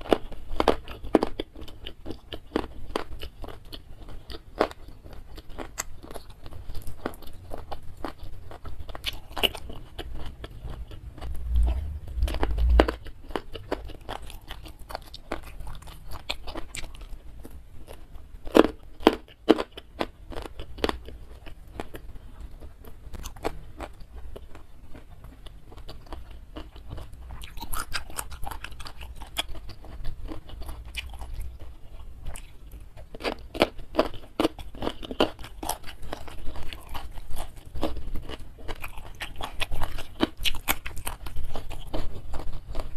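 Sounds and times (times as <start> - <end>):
person chewing and crunching food: 0.0 - 42.9.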